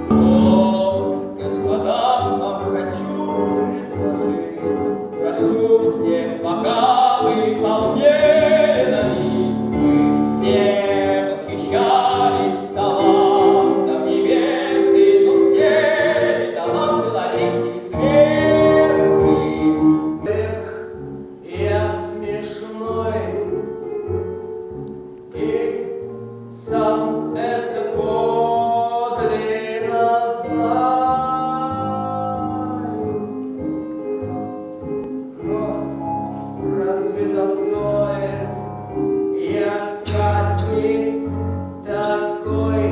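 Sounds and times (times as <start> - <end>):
person singing with vibrato: 0.0 - 24.2, 25.3 - 42.9.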